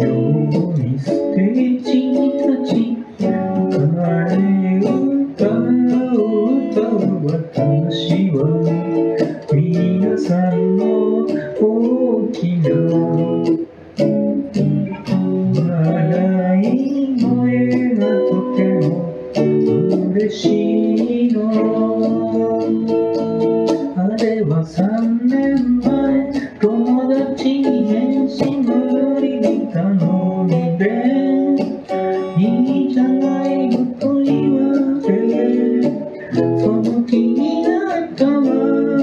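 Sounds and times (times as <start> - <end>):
plucked guitar: 0.0 - 39.0.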